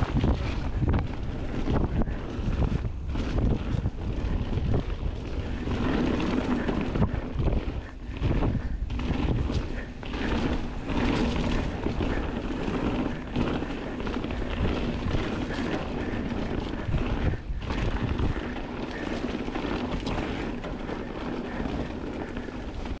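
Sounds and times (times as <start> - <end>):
bike rattling knocks: 0.0 - 23.0
tyre and wind rumble: 0.0 - 23.0.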